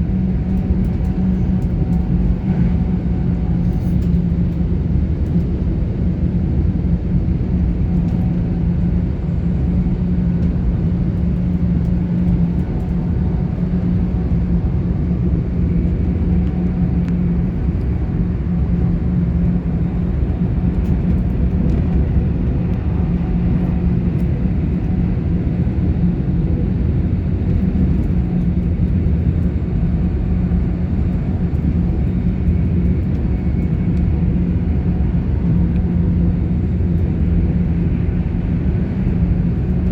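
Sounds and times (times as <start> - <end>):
traction equipment hum: 0.0 - 39.9
train wheels rumbling on rail: 0.0 - 39.9.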